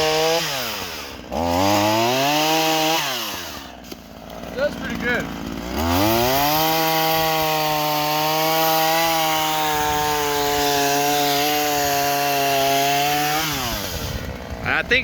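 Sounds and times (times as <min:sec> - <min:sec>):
chainsaw cutting wood at full throttle: 0:00.0 - 0:15.0.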